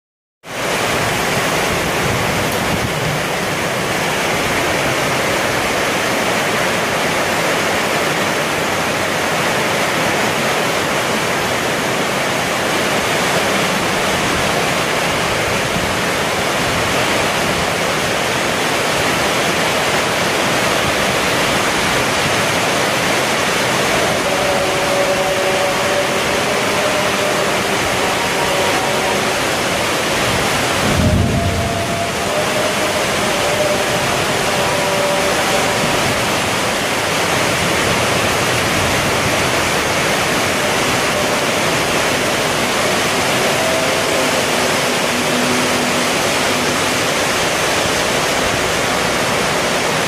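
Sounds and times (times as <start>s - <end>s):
heavy rain on a metal roof: 0.4s - 50.0s.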